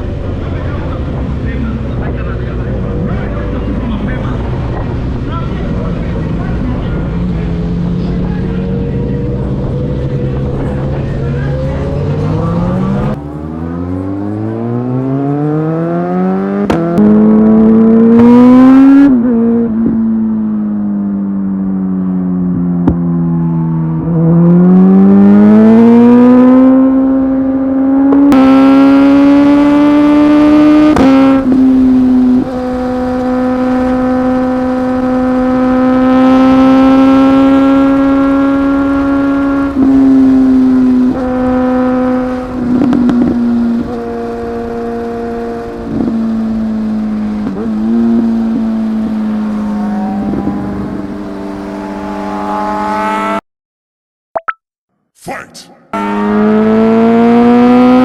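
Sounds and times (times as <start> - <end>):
motorcycle engine at speed: 0.0 - 53.4, 56.0 - 58.0.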